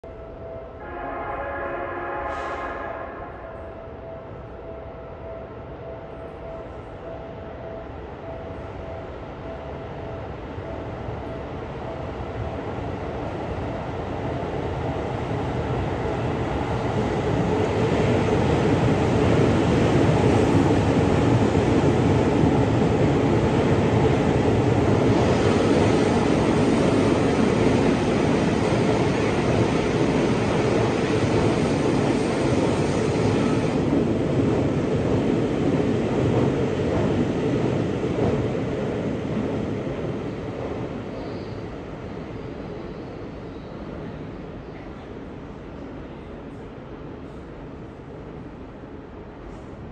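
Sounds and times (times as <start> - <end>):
electric train rumble: 0.1 - 49.9.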